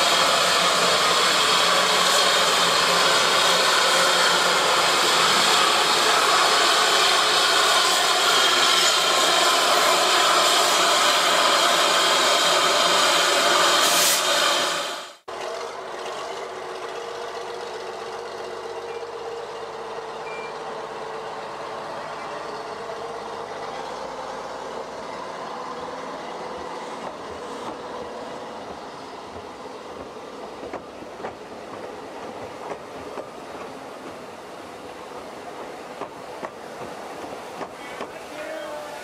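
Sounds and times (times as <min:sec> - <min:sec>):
train rumbling and hissing: 0:00.0 - 0:39.0.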